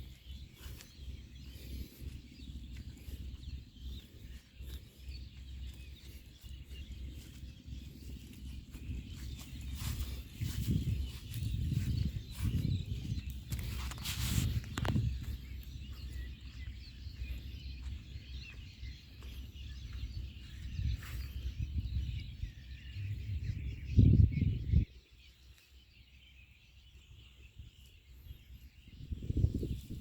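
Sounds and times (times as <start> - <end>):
low rumble on microphone: 0.0 - 25.2, 26.8 - 30.0
birds chirping: 0.0 - 30.0.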